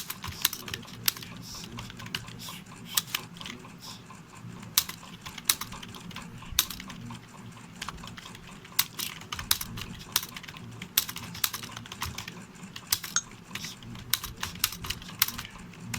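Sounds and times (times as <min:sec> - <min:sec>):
keyboard typing: 0:00.0 - 0:15.9.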